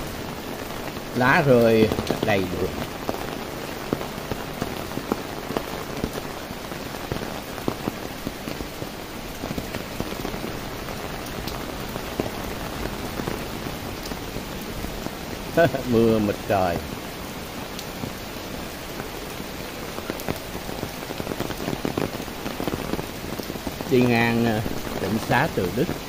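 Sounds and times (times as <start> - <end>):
raindrops ticking on an umbrella: 0.0 - 26.0
steady rain falling: 0.0 - 26.0.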